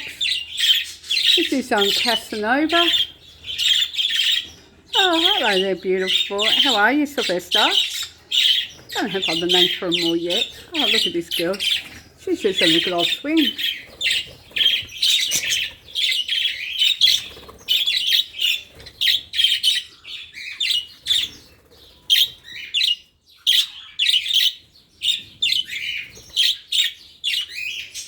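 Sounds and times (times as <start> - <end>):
budgerigars and cockatiels chirping: 0.0 - 28.0.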